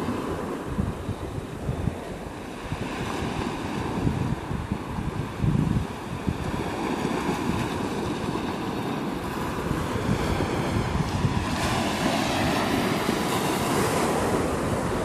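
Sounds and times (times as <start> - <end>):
wind on microphone: 0.0 - 15.0
waves washing over pebbles: 2.4 - 15.0.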